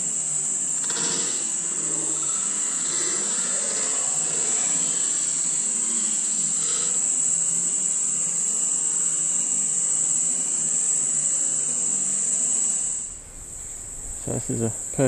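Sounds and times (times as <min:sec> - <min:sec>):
insect chorus droning: 0:00.0 - 0:15.0.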